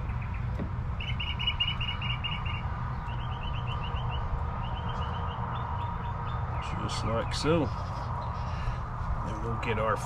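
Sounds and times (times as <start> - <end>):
small bird chirping: 0.0 - 8.5.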